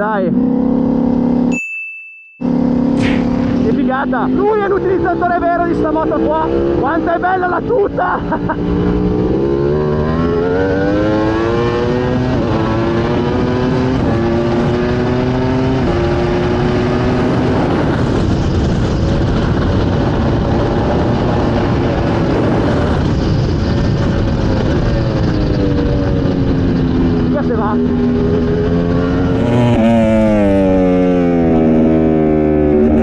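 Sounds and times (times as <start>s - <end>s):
motorcycle engine at full throttle: 0.0s - 1.5s, 2.4s - 33.0s
wind rush: 2.9s - 33.0s.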